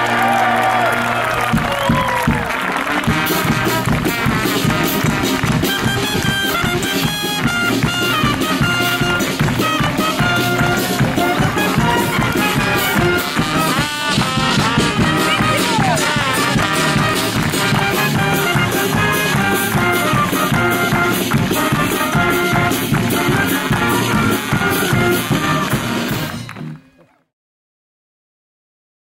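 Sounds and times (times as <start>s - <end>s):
lively brass band music: 0.0s - 26.8s.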